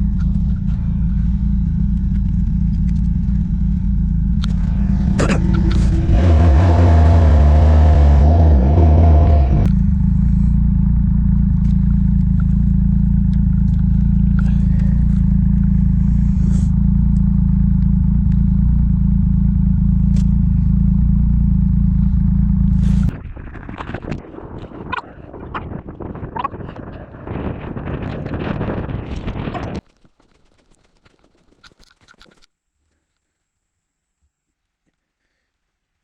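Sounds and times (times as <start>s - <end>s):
engine running: 0.0s - 29.8s.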